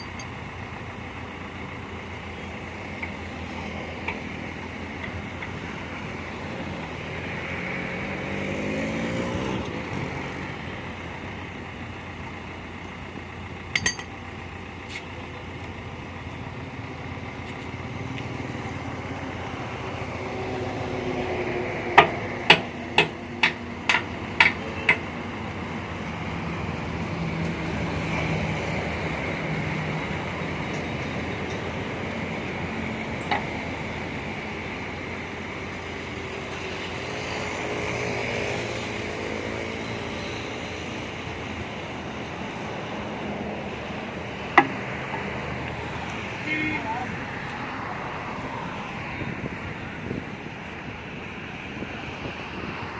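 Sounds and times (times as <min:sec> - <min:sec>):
diesel engine working: 0:00.0 - 0:52.9.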